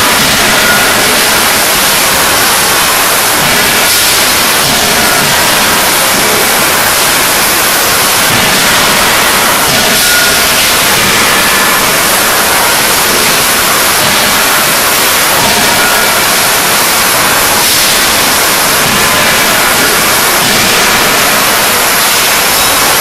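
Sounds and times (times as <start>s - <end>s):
forging shop din: 0.0s - 23.0s.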